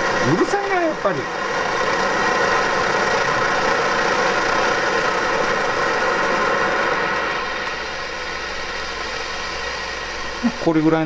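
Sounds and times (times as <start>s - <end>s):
stove burner roar: 0.0s - 11.0s.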